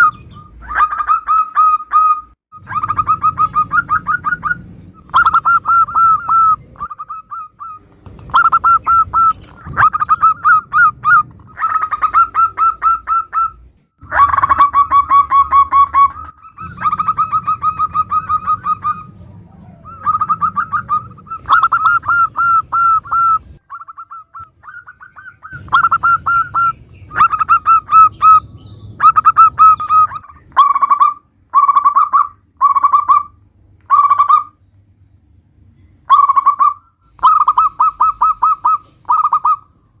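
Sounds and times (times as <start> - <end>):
doves cooing: 0.0 - 34.5, 36.1 - 39.7.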